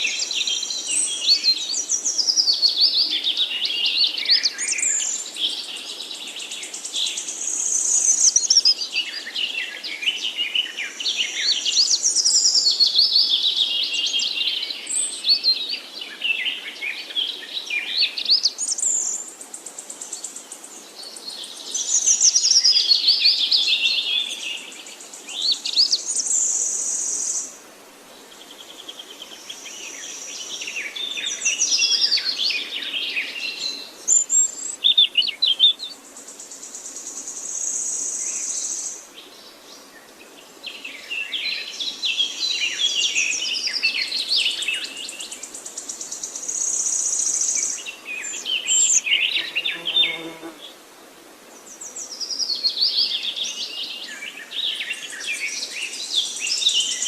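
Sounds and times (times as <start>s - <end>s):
songbirds singing: 0.0s - 50.8s, 51.5s - 57.0s.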